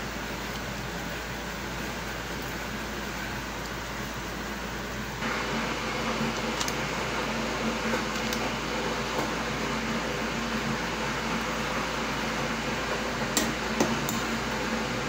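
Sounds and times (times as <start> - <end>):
fan whir in kitchen: 0.0 - 15.0.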